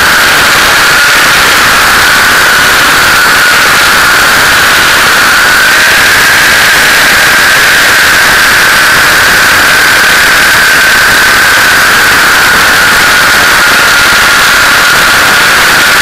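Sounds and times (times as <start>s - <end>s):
model helicopter rotor noise: 0.0s - 16.0s
steady high whine: 0.0s - 16.0s.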